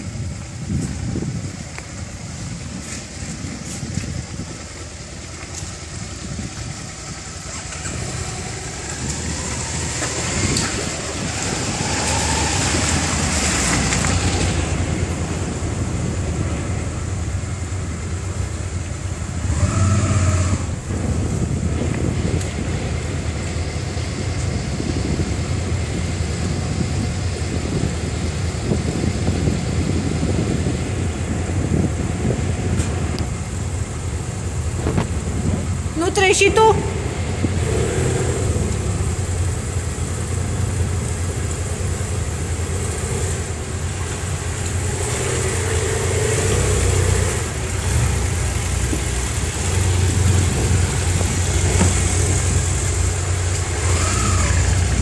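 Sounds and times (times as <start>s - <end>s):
shallow stream running: 0.0s - 36.2s, 36.8s - 55.0s.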